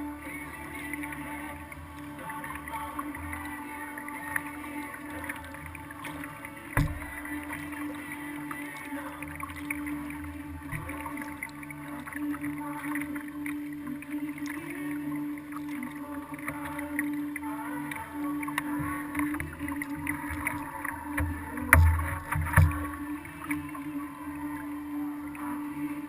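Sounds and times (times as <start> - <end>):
steady low hum: 0.0 - 26.0
water splashing: 0.0 - 26.0
kayak paddle strokes: 0.6 - 24.1.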